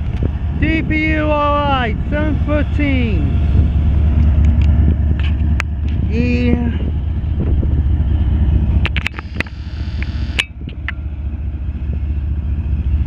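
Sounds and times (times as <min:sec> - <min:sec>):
diesel locomotive passing: 0:00.0 - 0:13.0
train cars rumbling on rails: 0:00.0 - 0:13.0.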